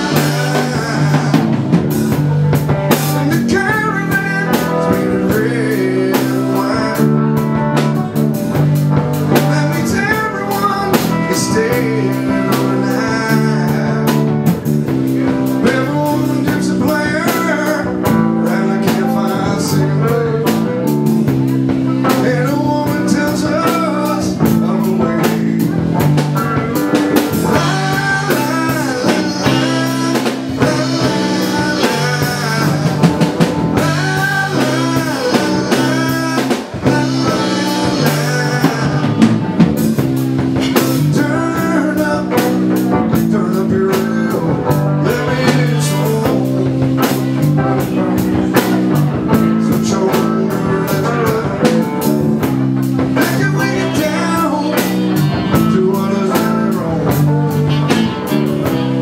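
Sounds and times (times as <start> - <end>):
blues-rock band playing: 0.0 - 59.0
lead electric guitar: 0.0 - 59.0.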